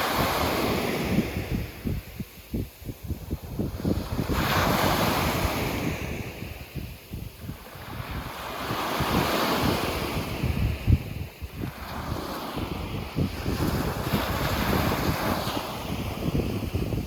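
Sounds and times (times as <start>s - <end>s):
sea waves breaking: 0.0s - 2.6s, 3.2s - 17.0s
wind buffeting microphone: 0.0s - 17.0s.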